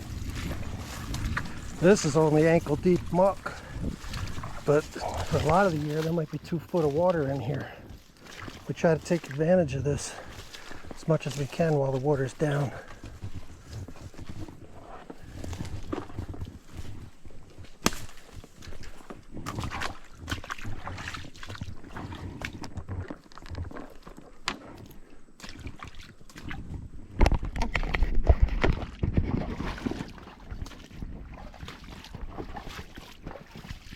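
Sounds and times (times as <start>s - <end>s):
footsteps sloshing through water: 0.0s - 33.9s.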